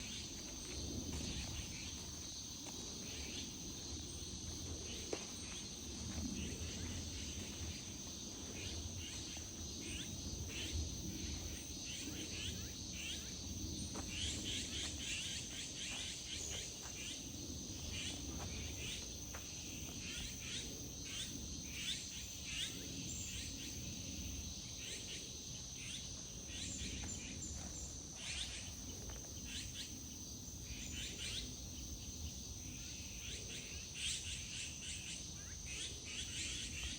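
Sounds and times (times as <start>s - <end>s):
insect chirps: 0.0s - 36.9s
insect trill: 0.0s - 36.9s.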